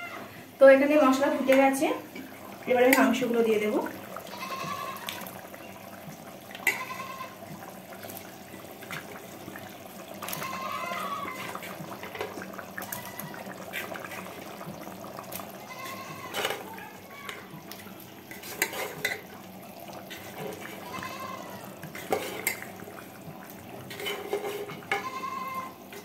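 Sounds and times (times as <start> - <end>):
sauce bubbling in a pan: 0.0 - 26.0.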